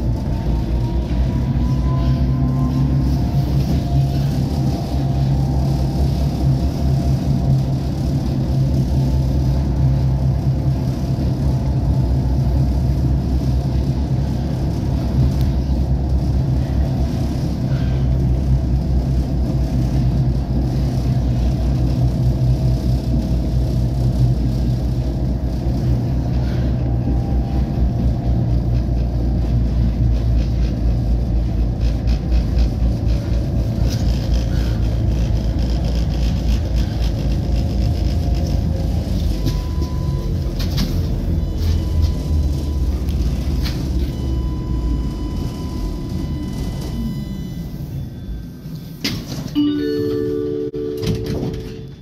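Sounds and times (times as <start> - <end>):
traction motor hum: 0.0 - 52.0
tram wheels rumbling on rail: 0.0 - 52.0.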